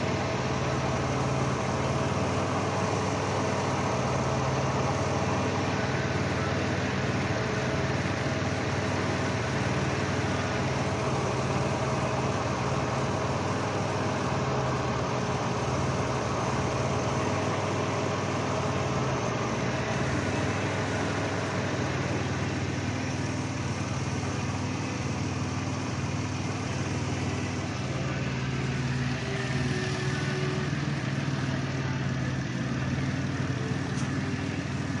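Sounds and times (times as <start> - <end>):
misfiring engine idling: 0.0 - 35.0.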